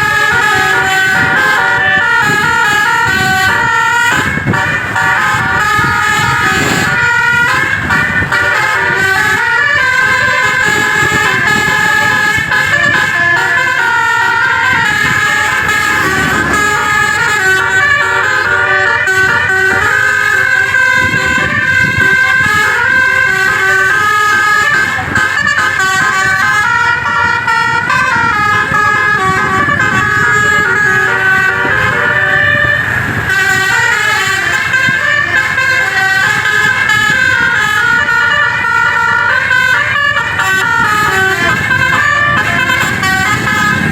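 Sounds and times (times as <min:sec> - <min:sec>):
musical air horn playing a tune: 0:00.0 - 0:43.9.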